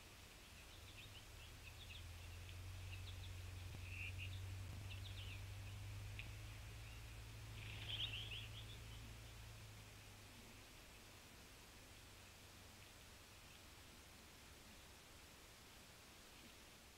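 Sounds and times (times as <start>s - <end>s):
faint low steady hum: 0.0s - 16.9s
small songbirds chirping: 0.0s - 16.9s.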